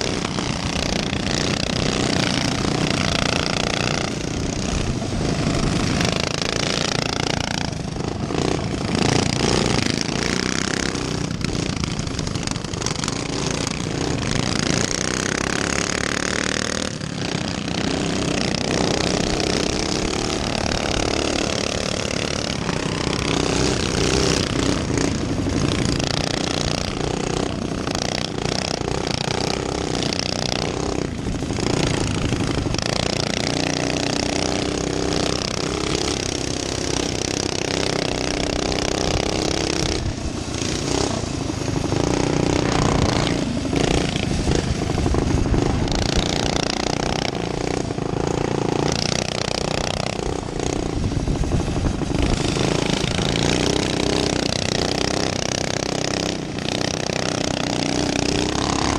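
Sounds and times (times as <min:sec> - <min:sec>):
small engines racing: 0:00.0 - 0:58.9.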